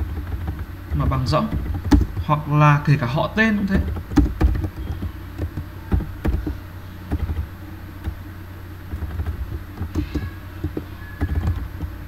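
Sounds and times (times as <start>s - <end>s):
keyboard typing clicks: 0.0s - 2.3s, 3.4s - 8.3s, 8.9s - 12.0s
steady low hum: 0.0s - 12.0s.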